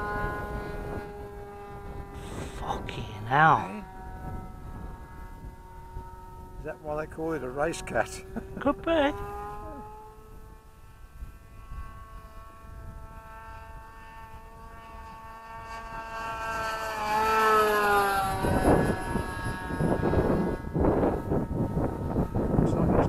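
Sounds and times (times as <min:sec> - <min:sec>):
model plane engine drone: 0:00.0 - 0:23.0
wind buffeting microphone: 0:00.0 - 0:23.0.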